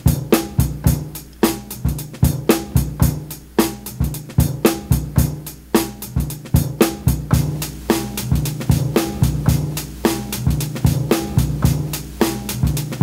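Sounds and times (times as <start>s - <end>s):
looping drum break: 0.0s - 13.0s.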